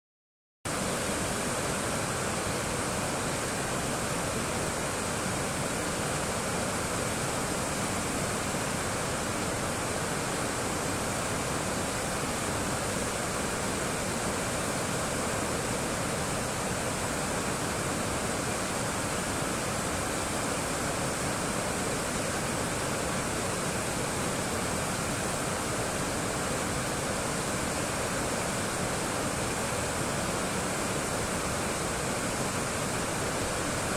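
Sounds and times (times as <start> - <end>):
river water rushing over weir: 0.7 - 33.9.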